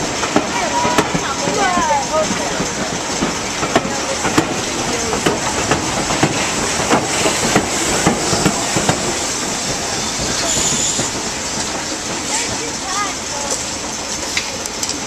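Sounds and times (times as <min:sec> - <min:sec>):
diesel locomotive engine running: 0:00.0 - 0:15.0.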